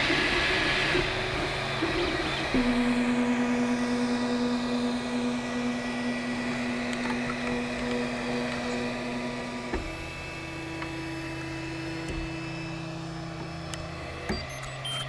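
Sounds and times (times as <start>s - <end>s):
cooling fans humming: 0.0s - 15.0s
stepper motors whining: 0.0s - 15.0s.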